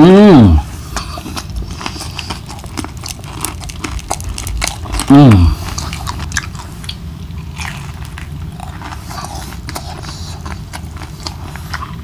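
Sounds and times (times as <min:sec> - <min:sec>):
chewing and crunching fried fish: 0:00.6 - 0:12.0.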